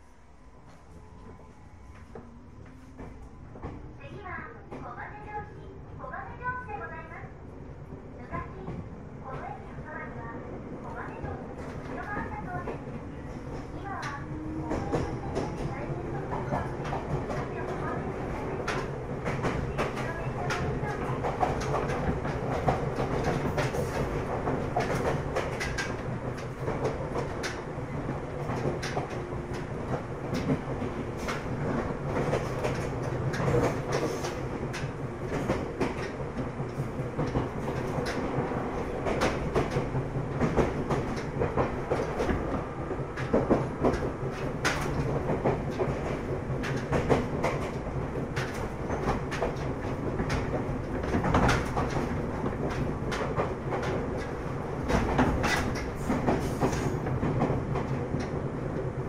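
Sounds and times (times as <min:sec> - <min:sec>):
train motor and gear hum: 0:00.0 - 0:59.0
wheels clicking over rail joints: 0:11.1 - 0:59.0.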